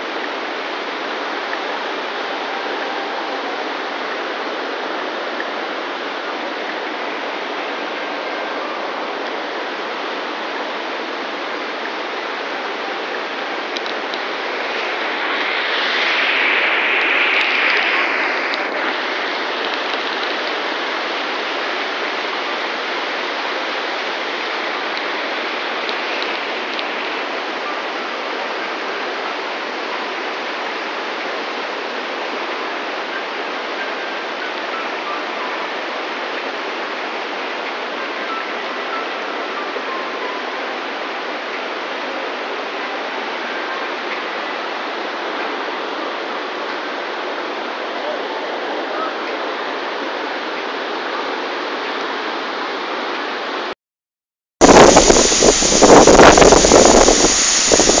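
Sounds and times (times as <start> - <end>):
waterfall and river rushing: 0.0 - 53.7, 54.6 - 58.0.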